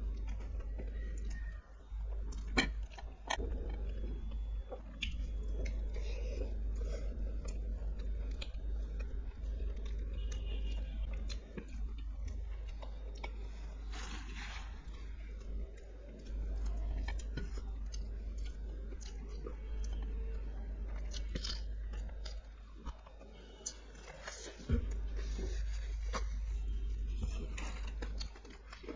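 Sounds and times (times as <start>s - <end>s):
low hum: 0.0s - 28.9s
person chewing food: 0.0s - 28.9s
crunchy bites: 2.2s - 28.9s.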